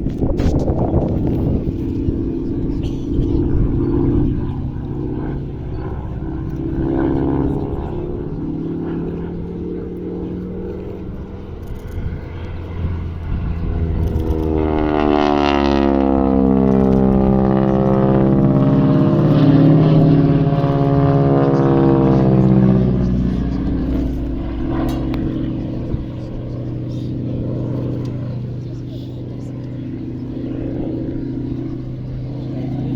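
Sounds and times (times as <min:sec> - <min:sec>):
propeller plane flying past: 0:00.0 - 0:32.9.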